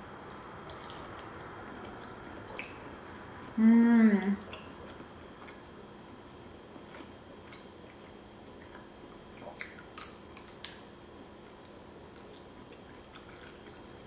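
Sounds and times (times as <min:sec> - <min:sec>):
person chewing: 0:00.0 - 0:02.9, 0:04.5 - 0:10.8, 0:11.4 - 0:13.9.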